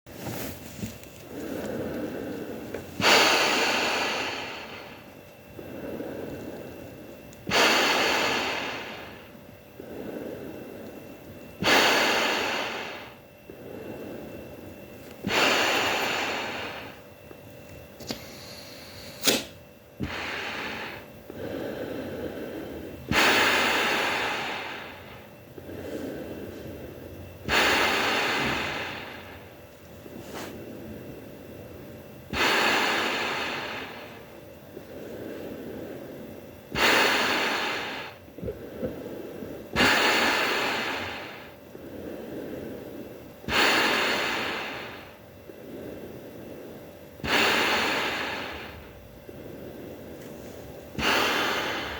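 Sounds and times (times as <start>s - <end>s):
hissing breaths through gas mask: 0.2s - 51.9s.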